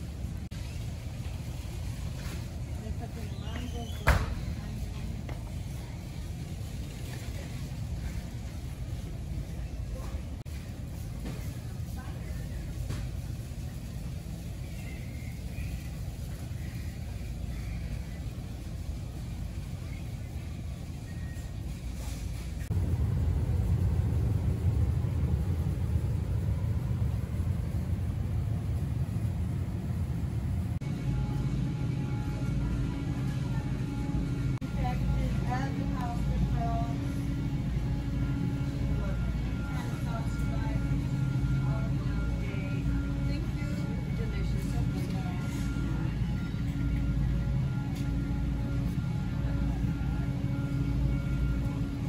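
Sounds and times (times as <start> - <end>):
steady low rumble: 0.0 - 3.6, 4.4 - 52.0.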